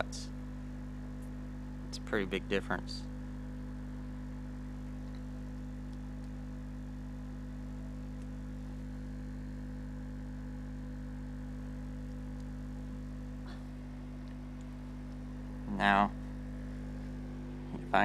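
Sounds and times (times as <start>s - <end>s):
subwoofer low test tone: 0.0s - 18.0s.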